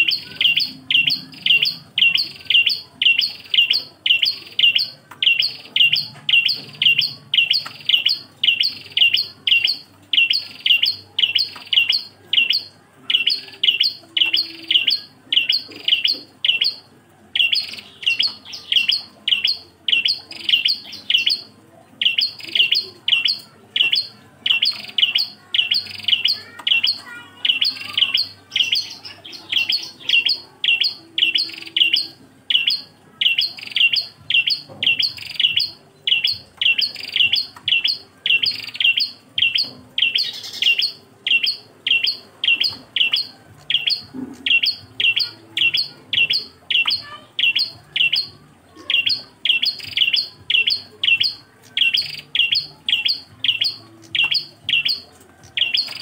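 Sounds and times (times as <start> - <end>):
bird singing high chirps: 0.0 - 56.0.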